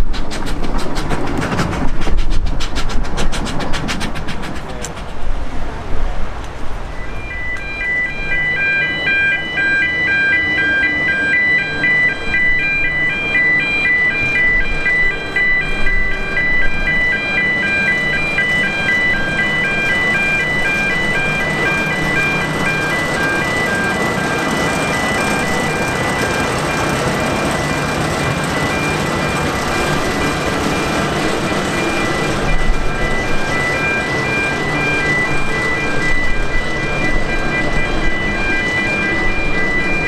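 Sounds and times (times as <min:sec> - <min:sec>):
locomotive engine running: 0:00.0 - 0:40.0
level crossing alarm: 0:06.9 - 0:40.0.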